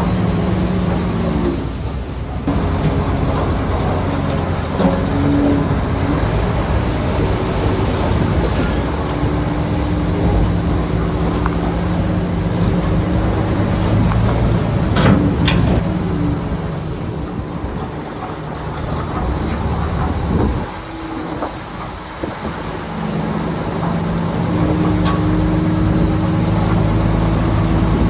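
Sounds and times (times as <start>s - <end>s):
heavy diesel machine running: 0.0s - 28.0s.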